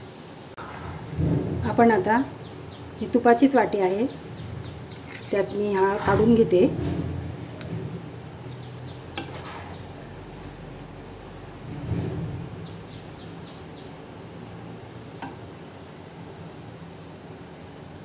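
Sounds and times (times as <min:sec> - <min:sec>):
high regular chirping: 0:01.4 - 0:18.0.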